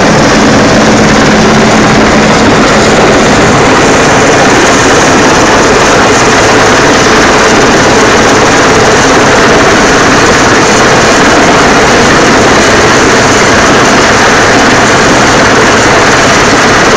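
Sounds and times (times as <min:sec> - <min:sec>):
helicopter hovering overhead: 0:00.0 - 0:16.9.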